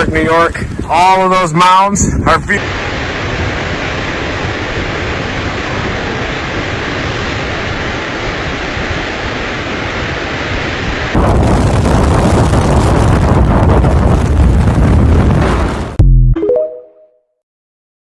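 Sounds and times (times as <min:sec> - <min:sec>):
snowstorm wind rushing: 0:00.0 - 0:16.0.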